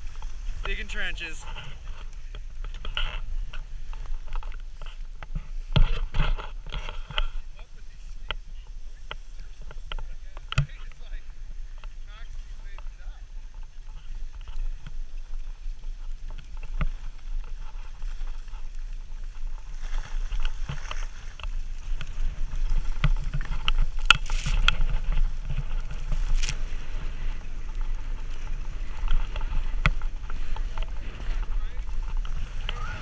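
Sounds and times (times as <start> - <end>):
skis scraping over snow: 0.0 - 10.4, 11.3 - 33.0
wind rumbling on microphone: 0.0 - 33.0.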